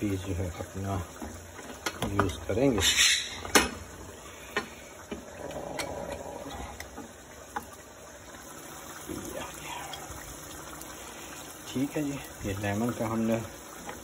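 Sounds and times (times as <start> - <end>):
juice trickling: 0.0 - 14.0.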